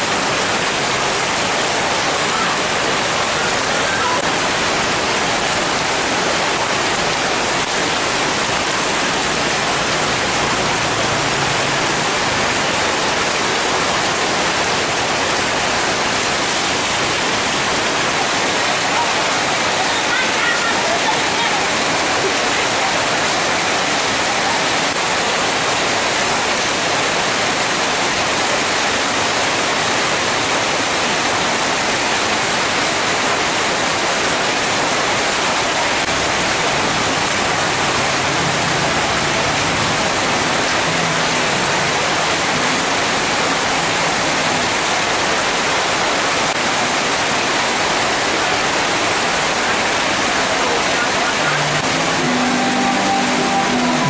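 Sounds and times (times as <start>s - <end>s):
heavy rain splashing on street: 0.0s - 54.0s
rain pattering on tarpaulin: 0.0s - 54.0s.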